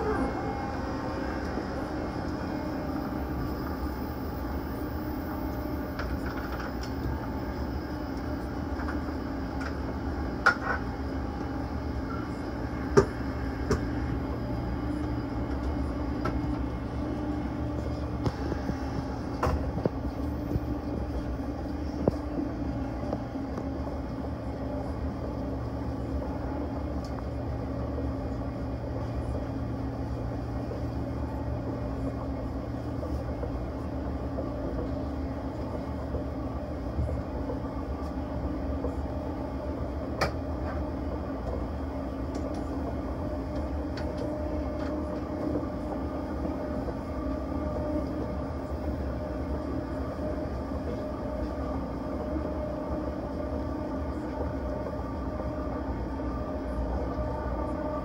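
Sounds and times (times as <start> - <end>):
train rumble on track: 0.0 - 58.0.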